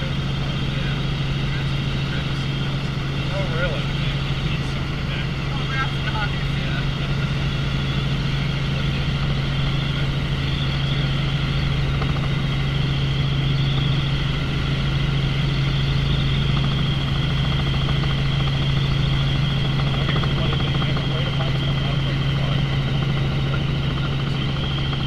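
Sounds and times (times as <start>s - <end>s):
helicopter drone: 0.0s - 25.0s
high whine: 0.0s - 25.0s.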